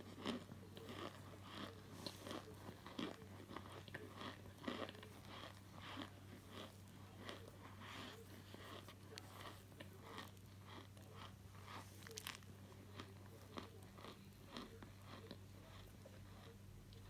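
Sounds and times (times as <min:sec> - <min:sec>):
starch crunching under spoon: 0:00.0 - 0:17.0.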